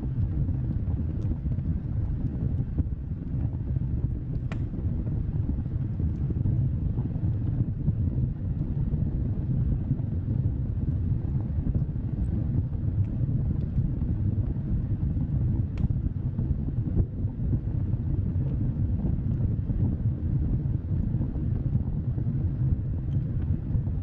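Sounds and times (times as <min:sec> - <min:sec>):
bonfire rumbling: 0:00.0 - 0:24.0
fire crackles: 0:00.0 - 0:24.0.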